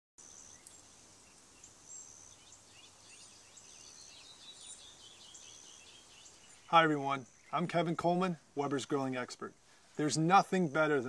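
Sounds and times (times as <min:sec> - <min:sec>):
small birds chirping: 0:00.2 - 0:11.0.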